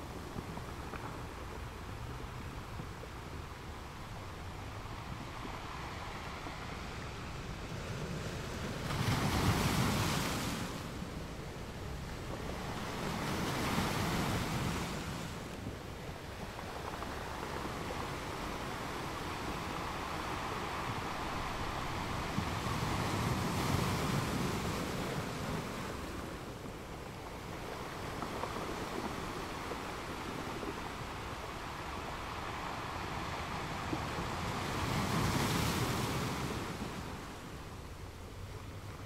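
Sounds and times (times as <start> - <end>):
waves on open water: 0.0 - 39.0
wind rushing over microphone: 0.0 - 39.0.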